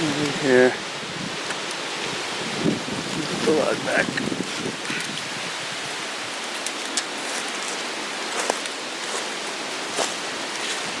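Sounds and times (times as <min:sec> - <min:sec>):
wind rushing through trees: 0:00.0 - 0:11.0.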